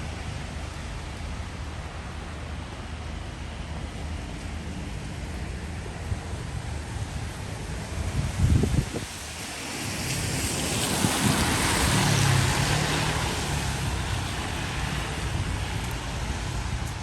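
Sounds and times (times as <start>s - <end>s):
tyre hiss on wet road: 0.1s - 17.0s.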